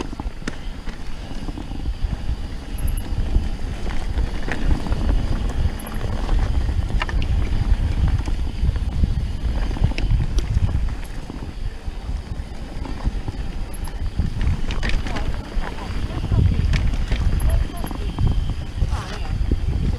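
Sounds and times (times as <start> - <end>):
bike clicks and rattles: 0.0 - 19.9
bike tyres rumbling on dirt: 0.0 - 19.9
wind buffeting microphone: 0.0 - 19.9.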